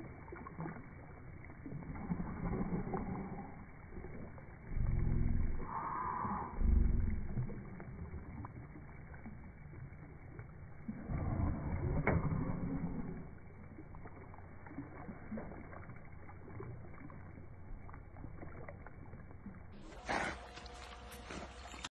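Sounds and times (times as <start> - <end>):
water sloshing and lapping: 0.0 - 21.9.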